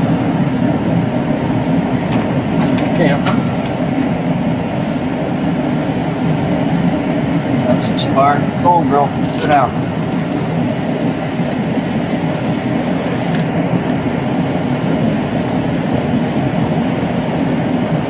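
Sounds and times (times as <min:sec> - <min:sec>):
vehicle low rumble: 0:00.0 - 0:18.0.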